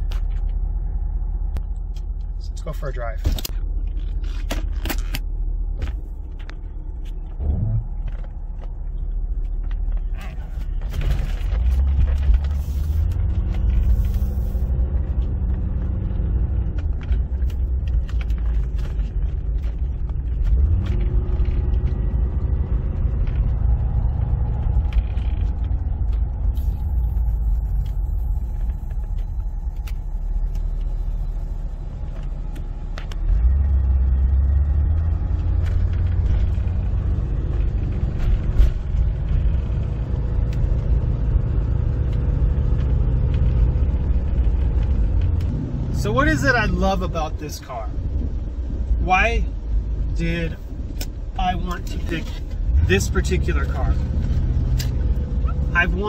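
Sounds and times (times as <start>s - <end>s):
car engine rumble from inside: 0.0s - 56.0s.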